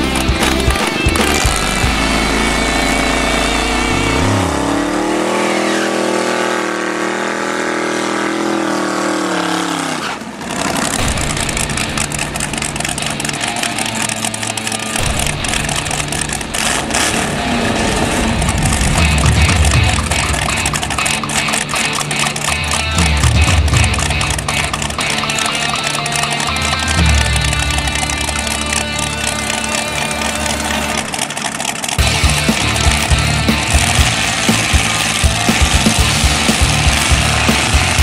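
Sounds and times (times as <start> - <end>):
drag car engine revving: 0.0 - 38.0
engines rumbling low: 0.0 - 38.0.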